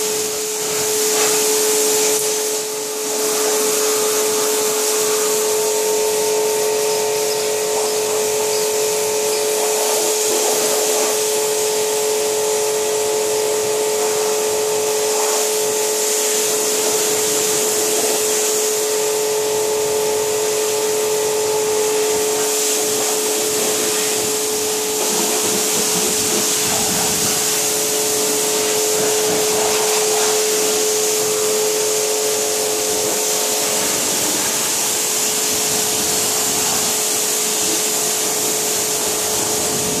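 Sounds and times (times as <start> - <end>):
pressure washer motor hum: 0.0 - 40.0
water jet hissing on car: 0.0 - 40.0.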